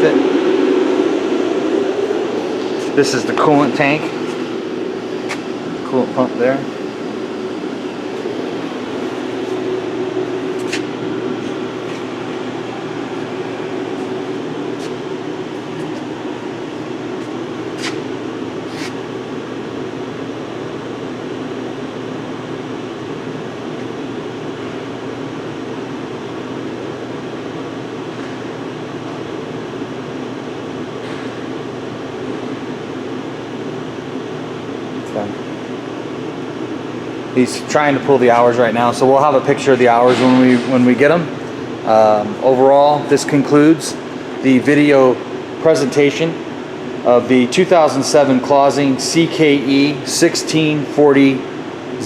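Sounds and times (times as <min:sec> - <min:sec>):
machinery hum: 0:00.0 - 0:52.0.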